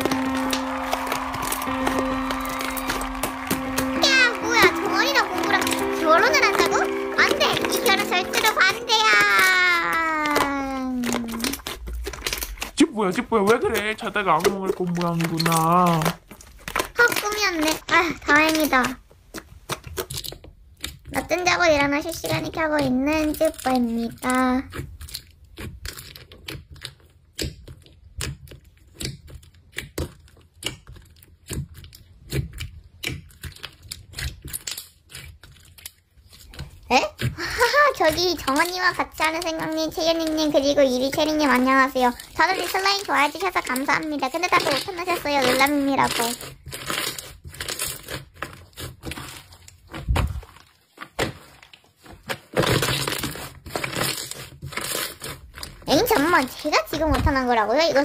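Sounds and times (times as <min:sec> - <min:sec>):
slime crackling and popping: 0:00.0 - 0:58.0.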